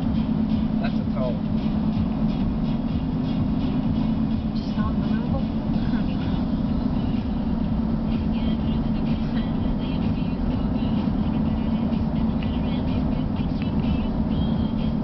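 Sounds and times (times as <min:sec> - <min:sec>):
car road and engine rumble: 0:00.0 - 0:15.0
low hum: 0:00.0 - 0:15.0.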